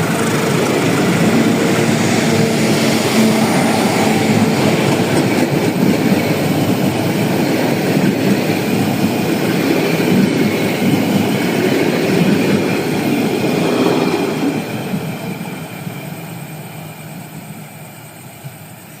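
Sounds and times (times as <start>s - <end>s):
train coaches rumbling on rails: 0.0s - 19.0s.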